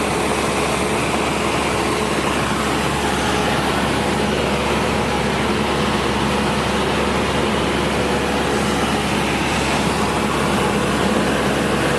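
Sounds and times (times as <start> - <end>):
aircraft engine and propeller drone: 0.0 - 11.9
rush of air noise: 0.0 - 11.9.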